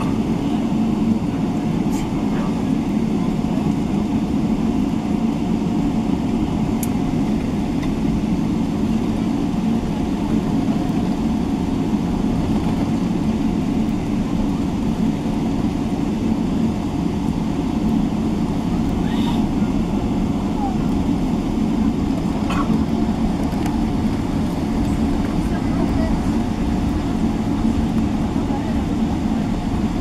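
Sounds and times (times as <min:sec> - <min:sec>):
jet engines idling rumble: 0:00.0 - 0:30.0.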